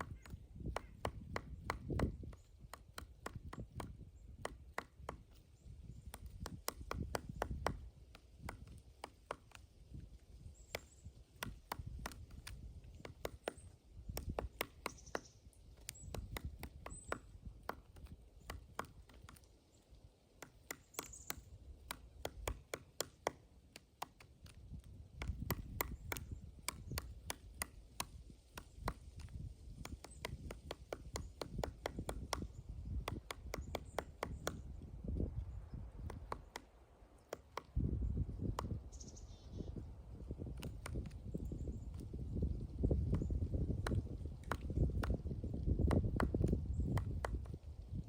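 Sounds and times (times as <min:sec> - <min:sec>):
woodpecker knocking on wood: 0:00.0 - 0:48.0.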